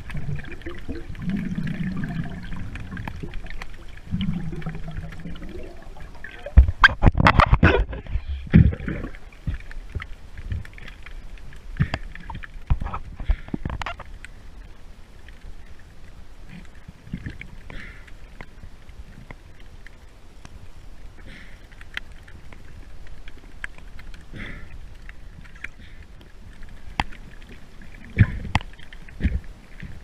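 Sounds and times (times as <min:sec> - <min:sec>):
underwater bubbles: 0:00.0 - 0:30.0.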